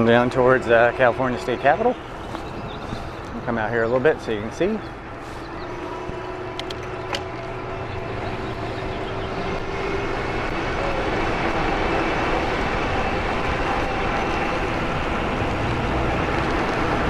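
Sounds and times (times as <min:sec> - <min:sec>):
wind across microphone: 0:00.0 - 0:17.0.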